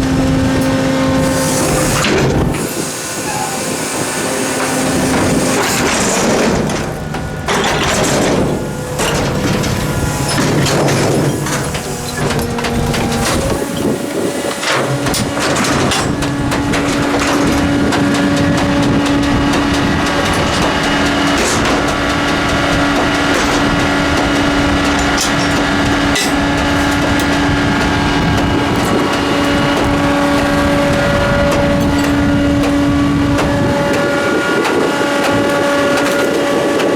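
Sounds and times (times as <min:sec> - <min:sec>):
hydraulic pump whine: 0:00.0 - 0:36.9
trash and metal crashing: 0:00.5 - 0:36.9.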